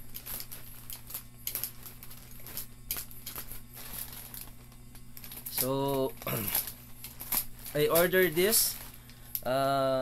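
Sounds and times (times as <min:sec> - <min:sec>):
plastic mailer crinkling: 0:00.0 - 0:09.6
steady low hum: 0:00.0 - 0:10.0.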